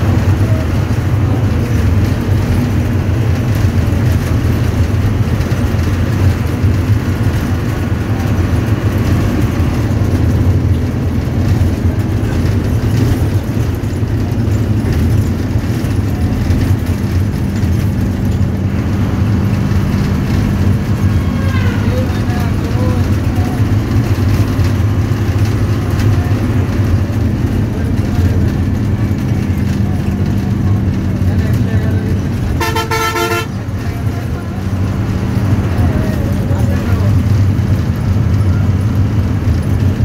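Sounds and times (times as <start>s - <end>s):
bus engine and road noise: 0.0s - 40.0s.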